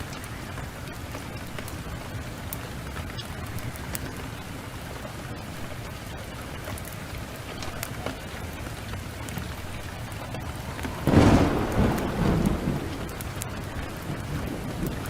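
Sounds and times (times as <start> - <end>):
heavy rain: 0.0 - 15.0
thunderclap rumbling: 0.0 - 15.0.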